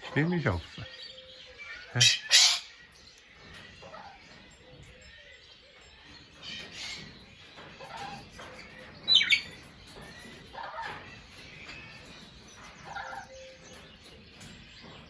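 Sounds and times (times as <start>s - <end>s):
parrots calling and chirping: 0.0s - 15.0s.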